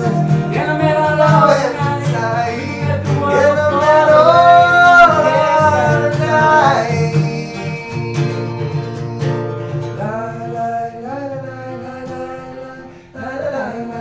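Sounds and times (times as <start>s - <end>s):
man singing wordless held note: 0.0s - 14.0s
strummed acoustic guitar: 0.0s - 14.0s.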